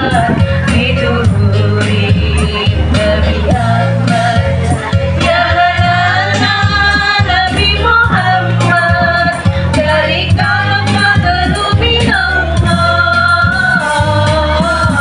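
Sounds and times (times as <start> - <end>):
keyboard: 0.0 - 15.0
steady drum beat: 0.0 - 15.0
women singing together: 0.0 - 15.0.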